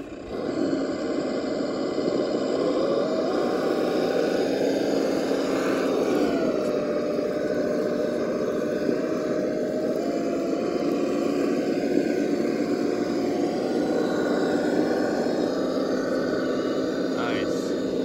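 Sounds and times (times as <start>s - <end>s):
rc car electric motor whining: 0.0s - 18.0s.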